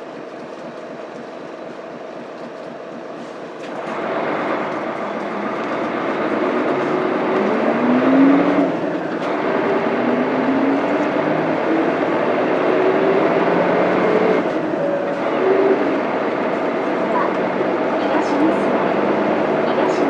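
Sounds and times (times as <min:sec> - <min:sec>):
bus diesel engine accelerating: 0:00.0 - 0:20.0.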